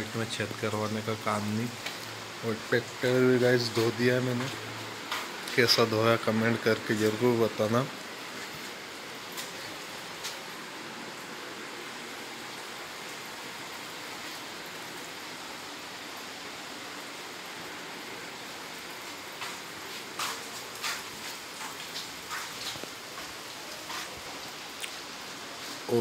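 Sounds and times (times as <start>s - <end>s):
light rain hissing: 0.0s - 26.0s.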